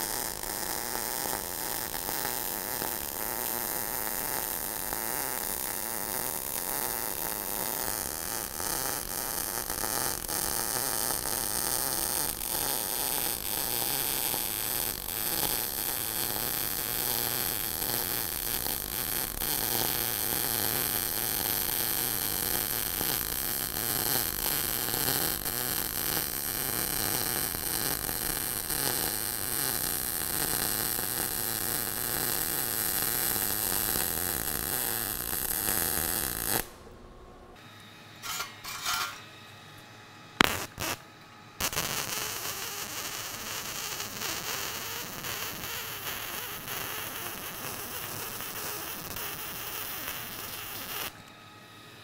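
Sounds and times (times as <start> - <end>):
welding arc running: 0.0 - 36.8, 38.2 - 39.3, 40.4 - 41.0, 41.6 - 51.1.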